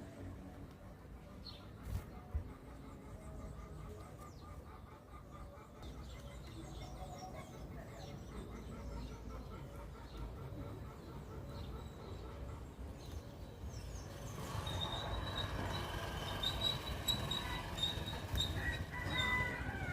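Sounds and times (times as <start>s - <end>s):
birds chirping: 0.1s - 19.9s.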